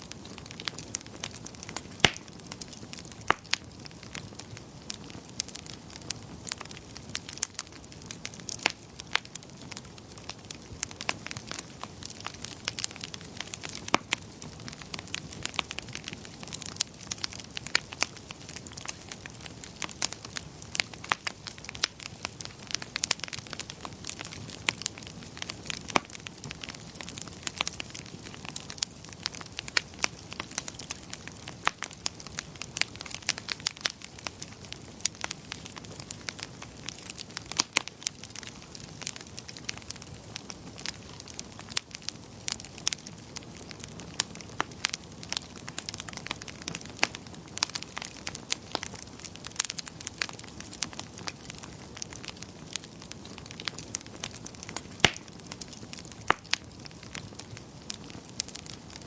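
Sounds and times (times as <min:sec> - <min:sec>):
rumble of flames: 0:00.0 - 0:59.0
wood fire snaps and pops: 0:00.0 - 0:59.0.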